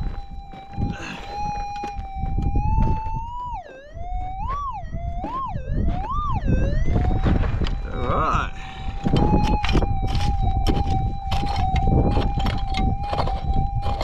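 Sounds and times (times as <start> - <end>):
metal detector tone: 0.0 - 14.0
wind on microphone: 0.0 - 14.0.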